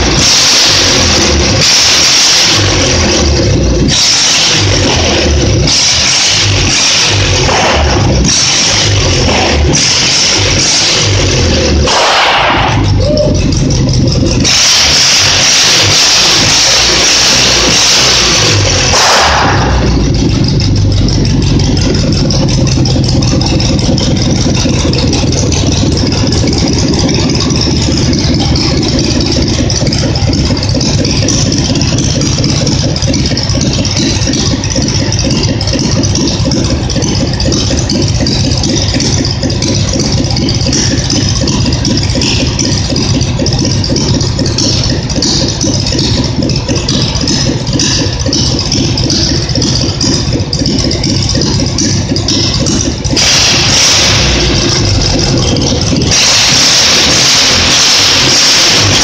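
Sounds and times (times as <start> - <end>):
twin-cylinder engine running: 0.0 - 59.0.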